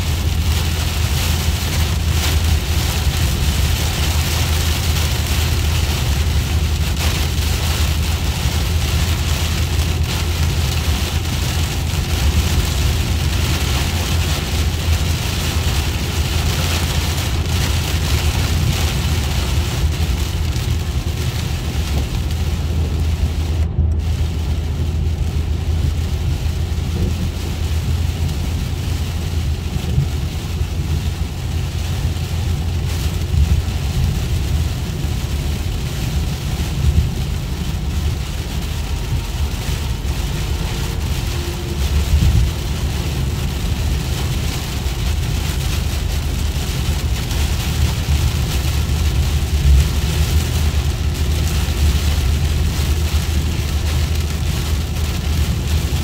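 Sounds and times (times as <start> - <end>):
heavy rain on car windshield: 0.0 - 56.0
road and engine rumble: 0.0 - 56.0.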